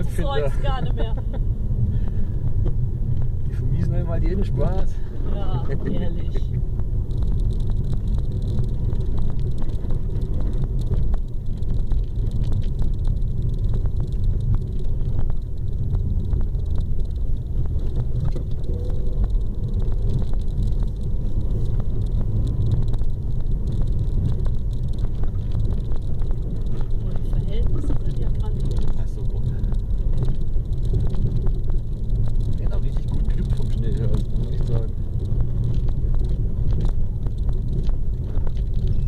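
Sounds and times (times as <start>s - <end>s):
car engine pulling uphill: 0.0s - 39.0s
tyres rumbling over packed snow: 0.0s - 39.0s.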